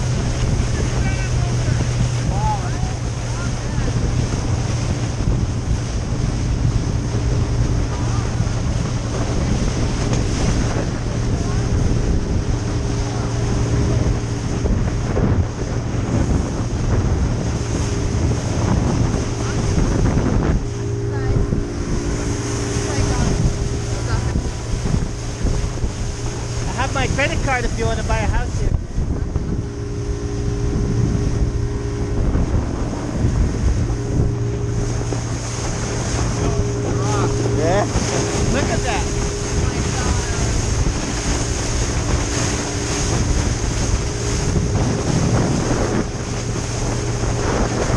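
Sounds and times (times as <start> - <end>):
boat motor running: 0.0 - 47.9
water rushing past hull: 0.0 - 47.9
wind buffeting microphone: 0.0 - 47.9.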